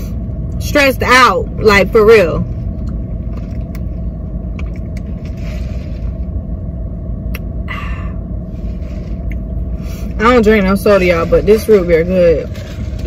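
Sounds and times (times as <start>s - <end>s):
car engine low rumble: 0.0s - 13.0s
faint steady hum: 0.0s - 13.0s.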